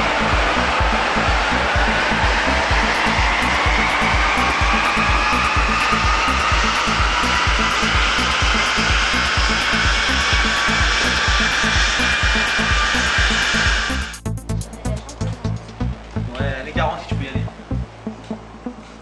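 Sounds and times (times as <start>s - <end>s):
loud steady rushing noise: 0.0s - 18.7s
background music with steady beat: 0.0s - 19.0s
faint whine rising in pitch: 0.0s - 19.0s.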